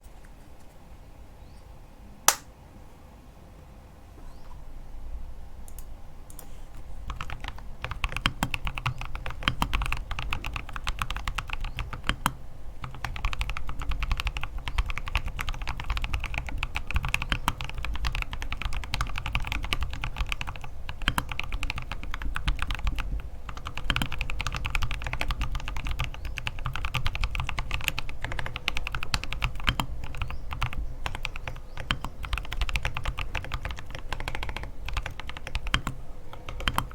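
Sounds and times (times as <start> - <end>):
typing on mechanical keyboard: 7.1 - 36.9.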